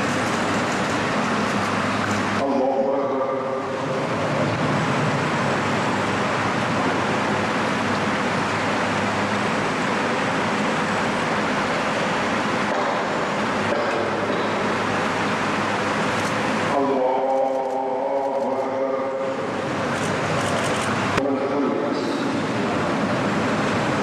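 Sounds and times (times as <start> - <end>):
electric wall fans running: 0.0 - 24.0.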